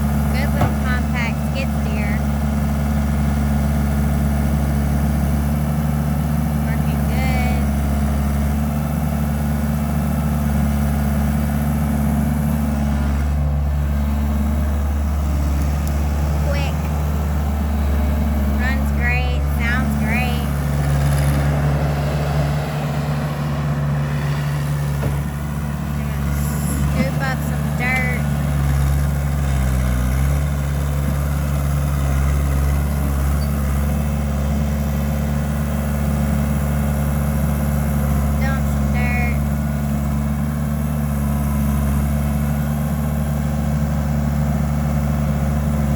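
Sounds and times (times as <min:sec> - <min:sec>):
diesel engine running steadily: 0:00.0 - 0:45.9.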